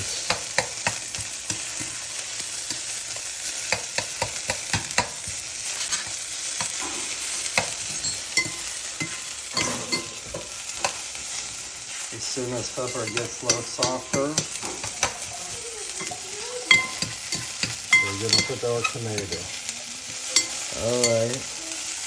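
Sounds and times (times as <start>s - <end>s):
vegetables sizzling in a pan: 0.0s - 22.0s
utensil clicking against pan: 0.2s - 2.0s, 2.6s - 11.1s, 12.8s - 21.4s.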